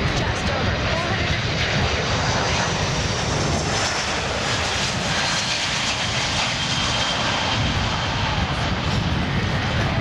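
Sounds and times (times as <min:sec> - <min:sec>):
loud jet engine noise: 0:00.0 - 0:10.0.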